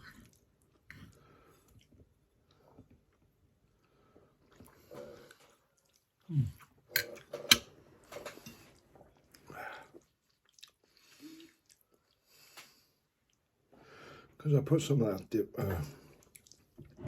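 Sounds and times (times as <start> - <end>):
person chewing food: 0.0 - 13.6, 16.0 - 17.0.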